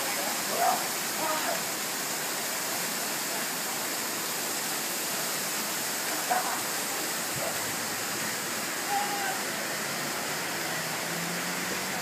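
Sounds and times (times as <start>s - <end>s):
waterfall pouring into pool: 0.0s - 12.0s.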